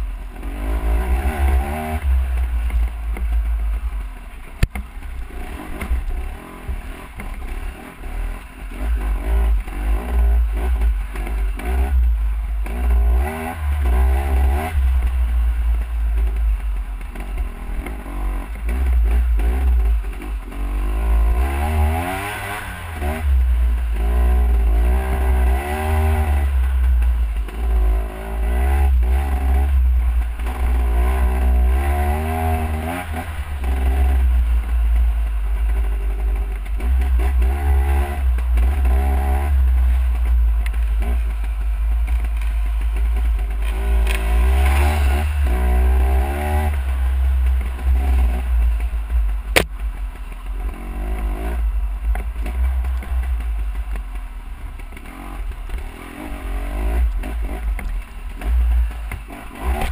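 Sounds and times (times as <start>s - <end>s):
dirt bike engine revving: 0.0s - 3.8s, 4.6s - 59.9s
bike rattles and knocks: 1.0s - 59.9s.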